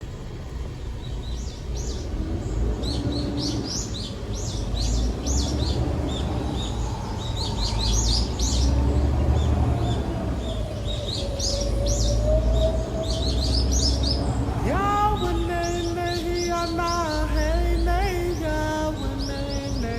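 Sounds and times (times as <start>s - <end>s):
small birds chirping: 0.0s - 19.9s
steady low rumble: 0.0s - 19.9s.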